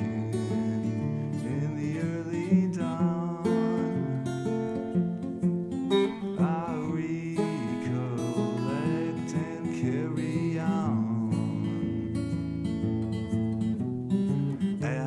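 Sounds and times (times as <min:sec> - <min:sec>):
acoustic guitar strumming: 0:00.0 - 0:15.0
wavering guitar melody: 0:00.0 - 0:15.0.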